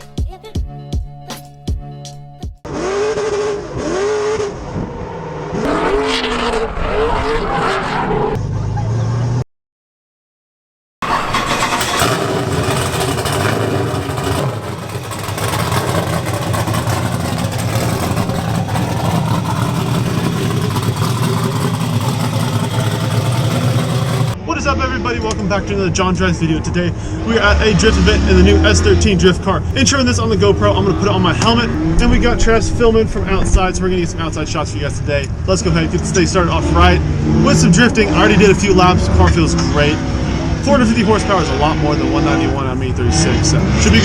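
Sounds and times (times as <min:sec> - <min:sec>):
car engine revving: 0:02.6 - 0:09.4, 0:11.0 - 0:24.4, 0:26.4 - 0:44.0.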